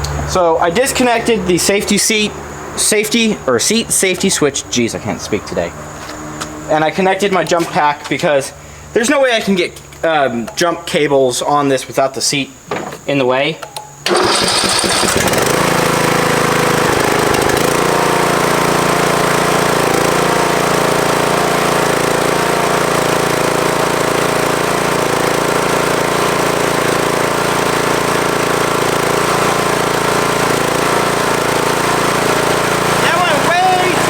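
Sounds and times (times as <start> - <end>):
riding mower engine running: 0.0 - 10.6, 14.0 - 34.0.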